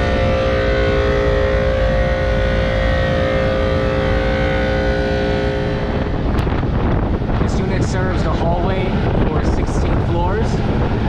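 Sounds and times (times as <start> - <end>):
air conditioner mechanical hum: 0.0 - 11.0.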